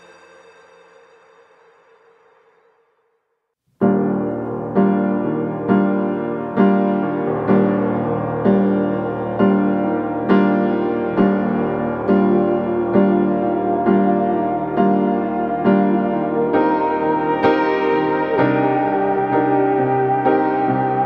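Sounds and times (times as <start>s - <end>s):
piano chords: 3.8s - 21.0s.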